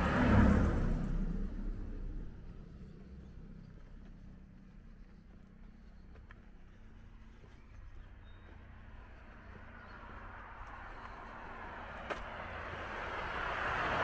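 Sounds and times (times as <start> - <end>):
car approaching road noise: 0.0 - 14.0.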